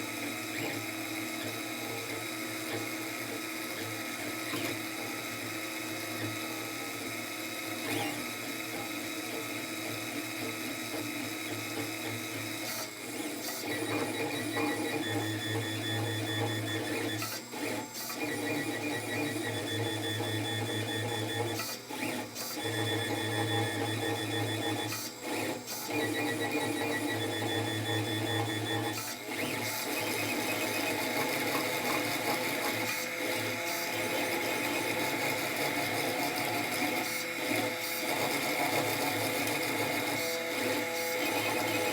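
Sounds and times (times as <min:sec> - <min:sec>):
printer stepper motors whining: 0:00.0 - 0:41.9.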